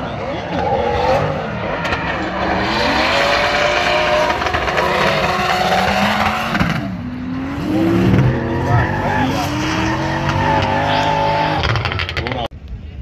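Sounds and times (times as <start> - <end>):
car engines revving high: 0.0 - 12.5.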